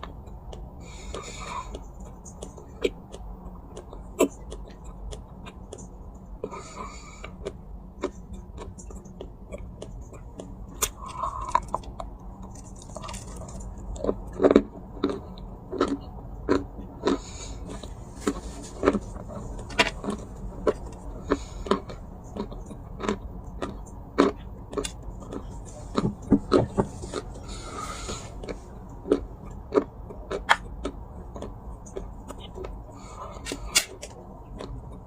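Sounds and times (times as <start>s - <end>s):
dry clay being chewed: 0.0s - 35.0s.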